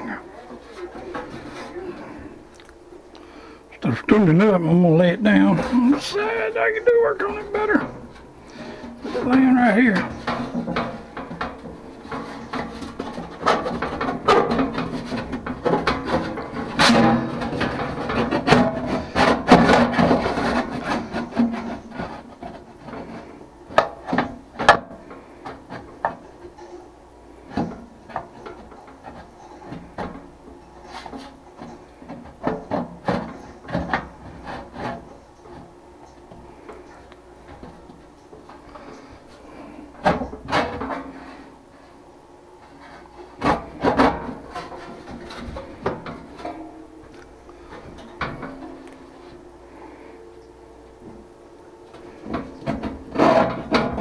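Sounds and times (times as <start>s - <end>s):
rubbing scraping and knocks: 0.0s - 2.4s, 4.1s - 42.0s, 42.6s - 49.5s, 51.9s - 54.0s.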